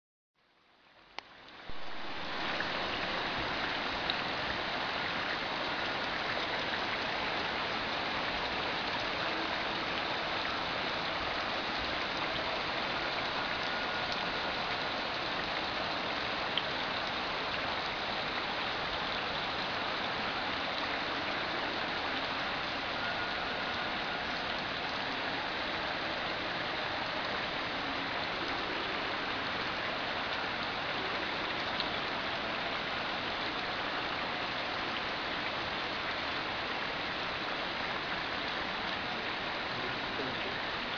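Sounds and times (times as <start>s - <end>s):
rain falling on a pond: 0.4s - 40.9s.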